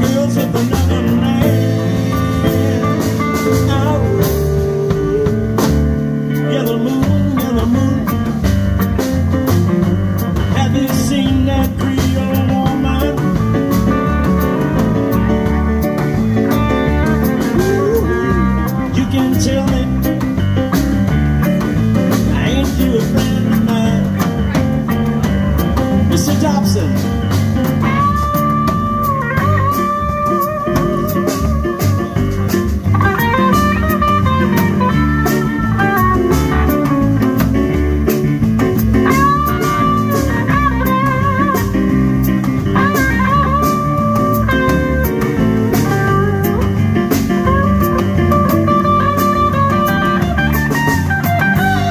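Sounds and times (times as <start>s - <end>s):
electric guitar bent notes: 0.0s - 6.2s, 7.4s - 51.9s
live blues band: 0.0s - 51.9s.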